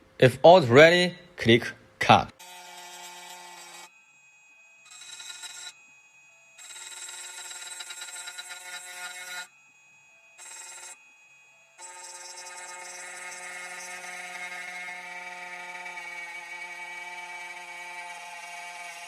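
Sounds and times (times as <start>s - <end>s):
key cutting machine motors whining: 2.4s - 19.0s.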